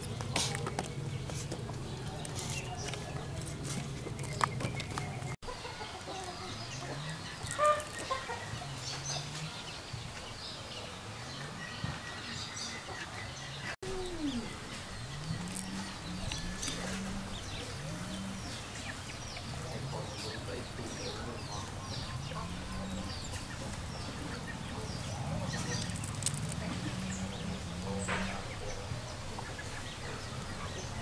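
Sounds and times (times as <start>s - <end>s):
chickens clucking: 0.0s - 31.0s
small birds chirping: 0.0s - 31.0s.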